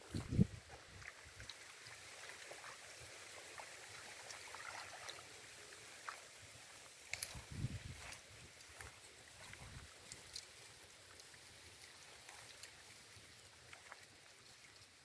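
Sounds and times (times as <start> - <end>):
faint flowing water: 0.0 - 15.0.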